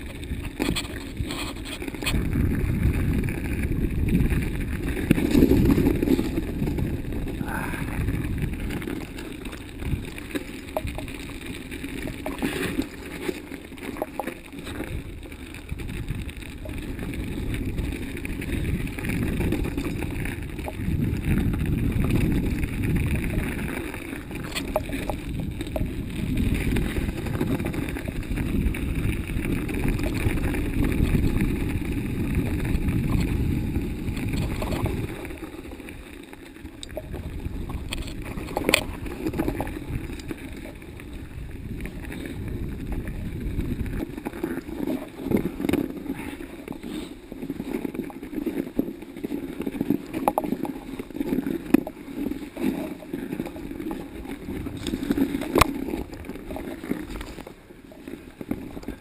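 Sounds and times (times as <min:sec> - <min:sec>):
bike rattling: 0:00.0 - 0:59.0
bike tyres on snow: 0:00.0 - 0:59.0
wind rumble on microphone: 0:00.0 - 0:59.0.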